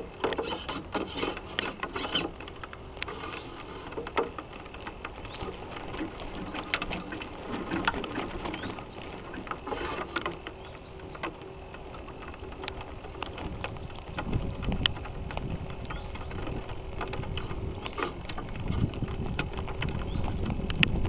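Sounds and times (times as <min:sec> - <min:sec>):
clicking and rattling: 0:00.0 - 0:21.0.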